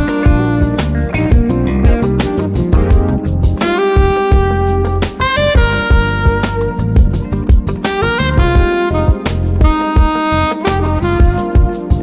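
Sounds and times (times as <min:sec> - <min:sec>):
bass line: 0:00.0 - 0:12.0
smooth jazz guitar: 0:00.0 - 0:12.0
steady drum beat: 0:00.0 - 0:12.0.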